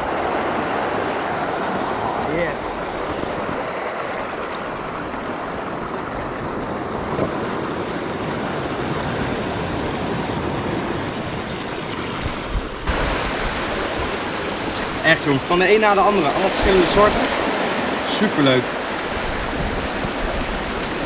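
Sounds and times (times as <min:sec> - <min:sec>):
ocean surf washing ashore: 0:00.0 - 0:21.0.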